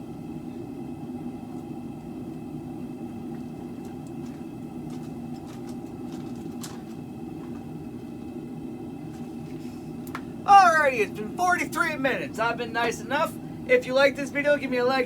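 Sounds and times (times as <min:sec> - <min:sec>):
forge burner roaring: 0:00.0 - 0:15.0.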